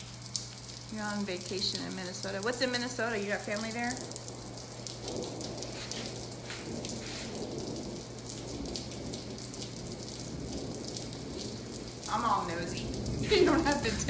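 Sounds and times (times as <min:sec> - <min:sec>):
low steady hum: 0:00.0 - 0:14.0
rain pattering: 0:00.0 - 0:14.0.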